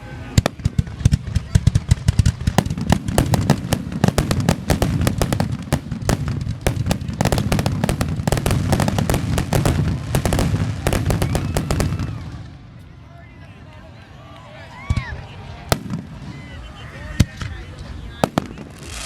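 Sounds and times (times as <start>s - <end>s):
fireworks crackling and popping: 0.2s - 19.0s.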